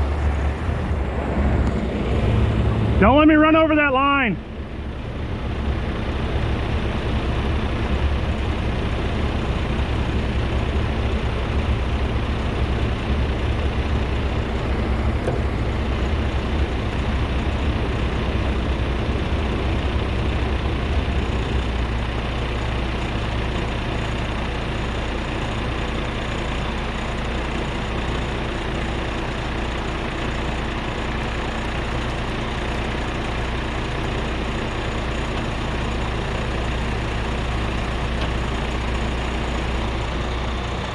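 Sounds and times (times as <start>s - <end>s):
diesel truck engine under load: 0.0s - 40.9s.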